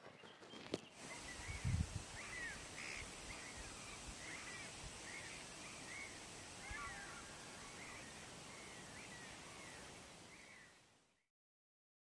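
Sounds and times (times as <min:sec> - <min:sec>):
distant birds chirping: 0:00.0 - 0:10.9
steady outdoor hiss: 0:00.0 - 0:11.3.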